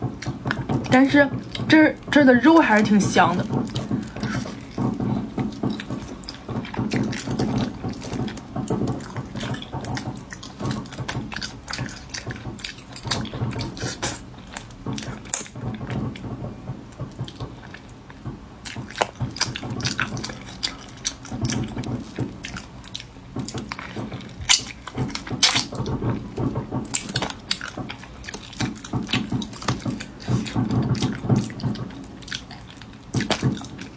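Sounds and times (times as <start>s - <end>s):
slurping and smacking: 0.0s - 33.9s
wet eating sounds: 0.0s - 33.9s.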